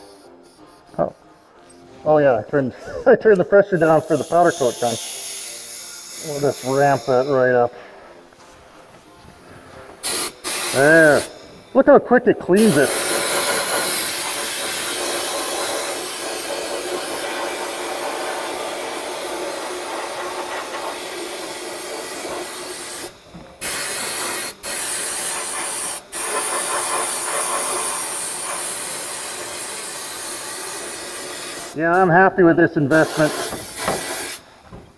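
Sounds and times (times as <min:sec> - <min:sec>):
sandblasting gun hissing: 0:02.8 - 0:07.9, 0:10.0 - 0:34.8.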